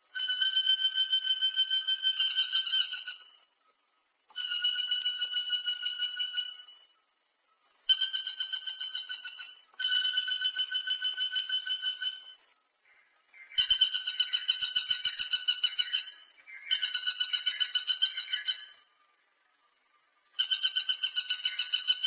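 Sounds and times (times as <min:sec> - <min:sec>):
woodpecker calling: 0:00.2 - 0:03.5, 0:04.3 - 0:07.0, 0:07.8 - 0:19.0, 0:20.2 - 0:22.0.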